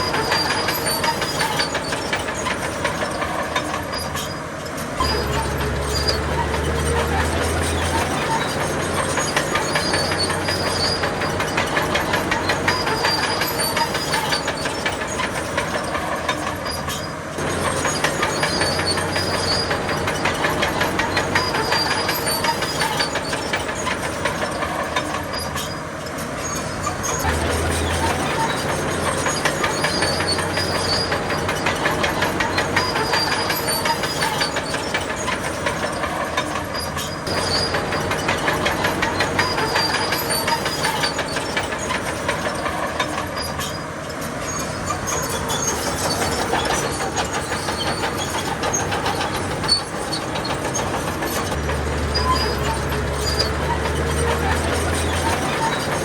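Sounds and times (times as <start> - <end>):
diesel engine droning: 0.0 - 56.0
steel tracks clanking: 0.0 - 56.0.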